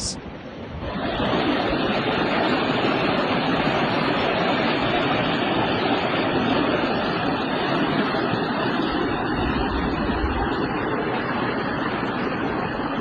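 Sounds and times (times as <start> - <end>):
floodwater rushing: 0.9 - 13.0.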